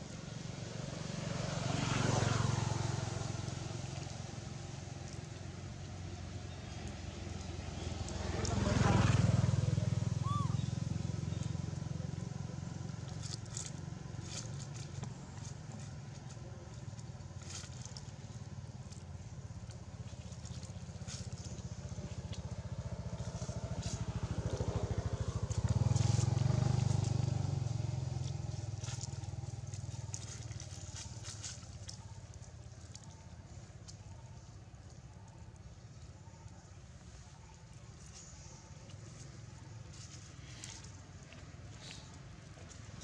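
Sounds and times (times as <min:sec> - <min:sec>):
passing vehicle engine hum: 0:00.0 - 0:43.0.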